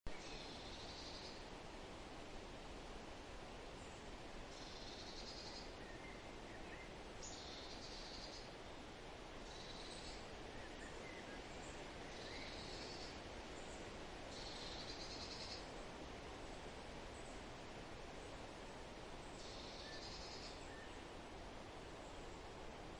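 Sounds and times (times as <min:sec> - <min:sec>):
steady background hiss: 0:00.1 - 0:22.9.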